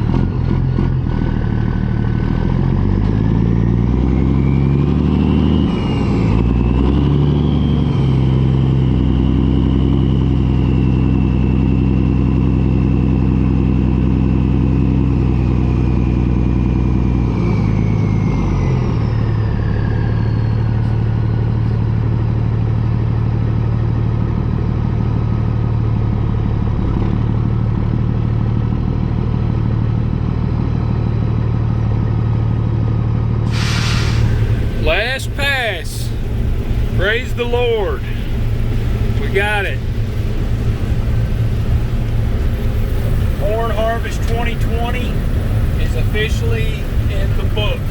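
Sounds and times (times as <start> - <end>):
combine harvester engine whining: 0.0 - 47.9.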